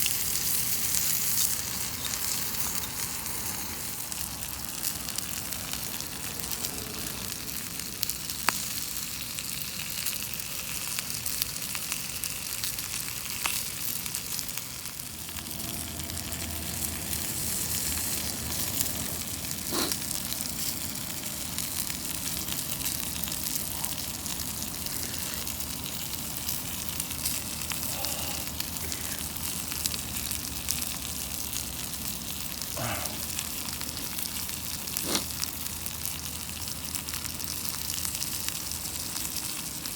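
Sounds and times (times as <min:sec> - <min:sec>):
chicken sizzling in a skillet: 0:00.0 - 0:39.9.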